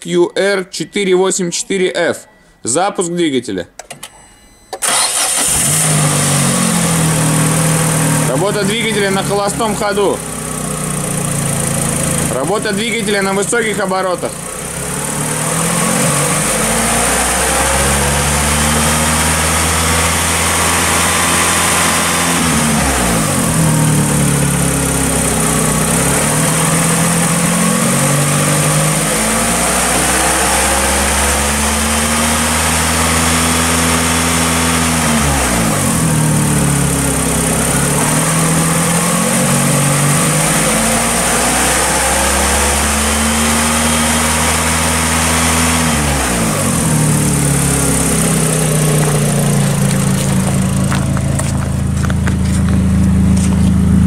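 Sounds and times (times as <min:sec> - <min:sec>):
petrol engine revving: 0:04.8 - 0:54.0.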